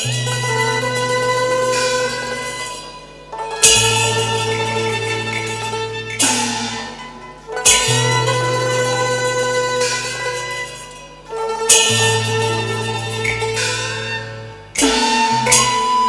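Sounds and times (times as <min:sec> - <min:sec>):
held low note: 0:00.0 - 0:16.0
plucked strings: 0:00.0 - 0:16.0
strong ringing stroke: 0:00.0 - 0:16.0.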